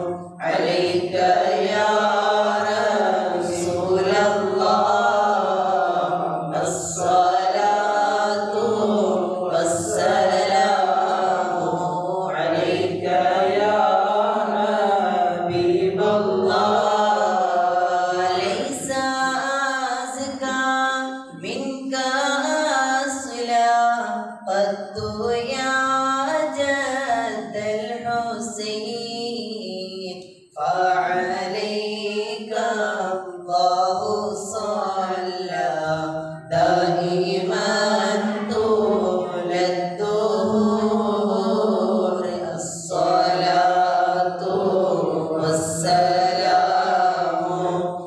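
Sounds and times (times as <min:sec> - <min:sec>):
men chanting through microphones: 0:00.0 - 0:25.2, 0:30.6 - 0:48.0.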